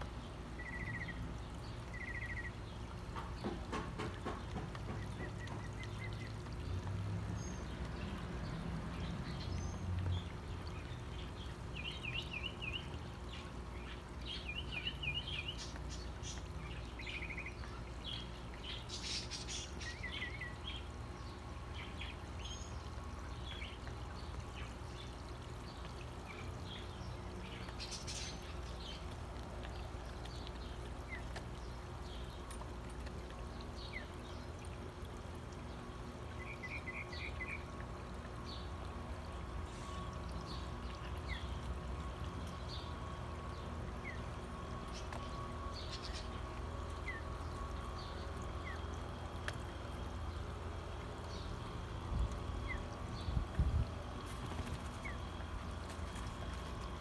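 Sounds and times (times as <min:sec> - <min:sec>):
birds chirping: 0:00.0 - 0:57.0
water trickling: 0:00.0 - 0:57.0.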